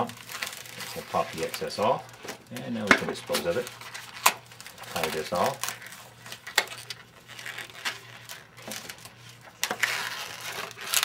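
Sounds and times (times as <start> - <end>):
balloons rubbing and crinkling: 0.0 - 11.0.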